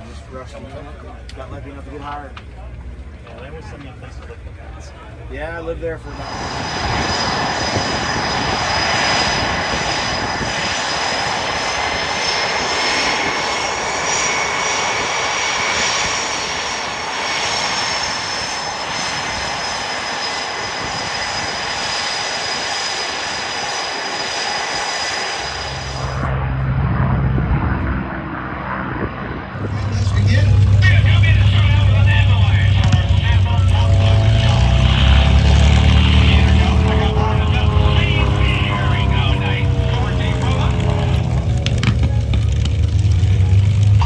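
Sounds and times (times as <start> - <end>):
airplane engine whine: 0.0 - 44.0.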